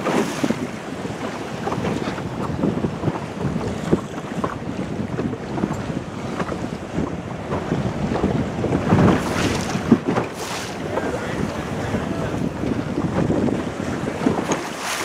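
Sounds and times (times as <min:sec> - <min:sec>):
choppy water washing: 0:00.0 - 0:15.0
wind buffeting microphone: 0:00.0 - 0:15.0.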